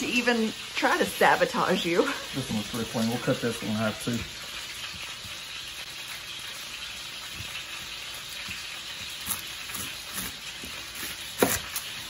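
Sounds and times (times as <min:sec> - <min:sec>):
chicken sizzling in skillet: 0:00.0 - 0:12.0.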